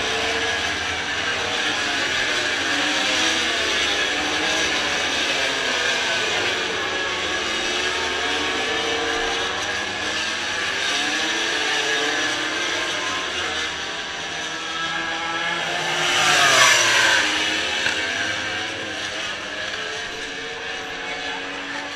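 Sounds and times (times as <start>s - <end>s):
motorcycle engines: 0.0s - 21.9s
traffic: 0.0s - 21.9s.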